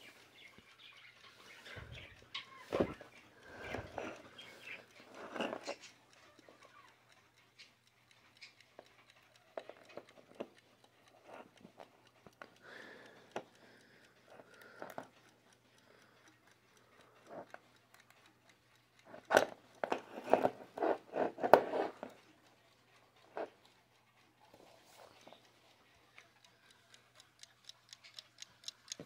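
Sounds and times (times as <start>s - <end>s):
alarm clock ticking faintly: 0.0s - 29.0s.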